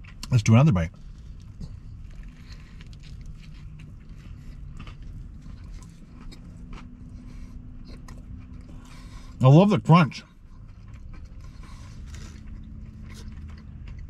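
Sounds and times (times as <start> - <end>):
chewing crunchy food: 0.0 - 9.4, 10.2 - 14.0
low steady hum: 0.0 - 14.0.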